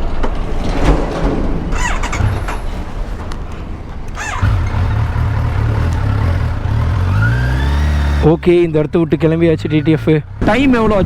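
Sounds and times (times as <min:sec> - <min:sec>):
motorcycle engine rumbling: 0:01.6 - 0:11.0.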